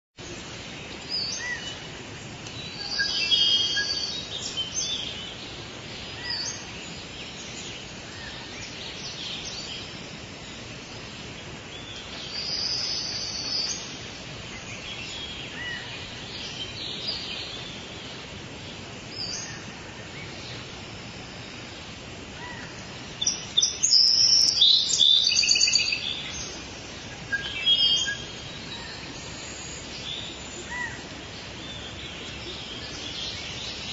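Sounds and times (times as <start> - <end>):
birds calling and chirping: 0.2 - 33.9
steady background hiss: 0.2 - 33.9
rapid repeated bird calls: 2.6 - 33.9.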